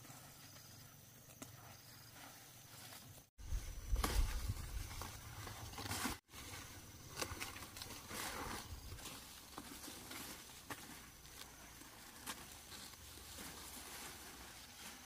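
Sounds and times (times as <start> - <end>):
leaves rustling: 2.1 - 15.0.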